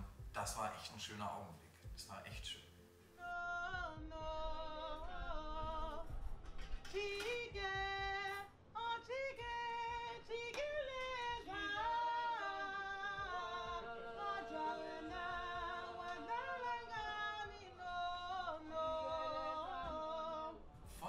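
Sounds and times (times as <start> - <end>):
women singing unaccompanied: 3.2 - 21.0.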